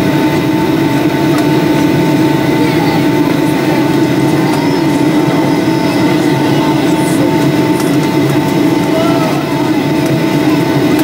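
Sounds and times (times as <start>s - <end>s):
airplane cabin drone: 0.0s - 11.0s
thin steady whine: 0.0s - 11.0s.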